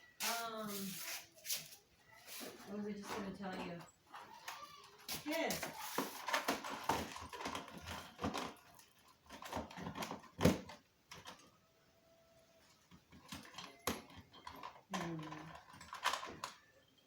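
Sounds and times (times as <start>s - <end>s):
clicks and knocks of objects handled: 1.4s - 11.6s, 12.7s - 17.0s.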